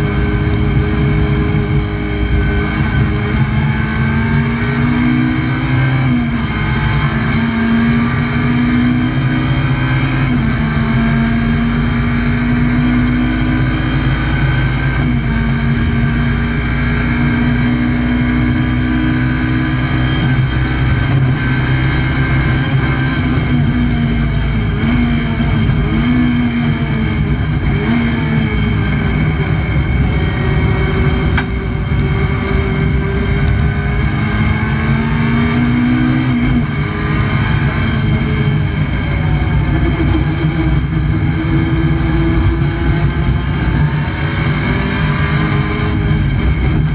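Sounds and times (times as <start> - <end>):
race car engine under load: 0.0 - 46.9.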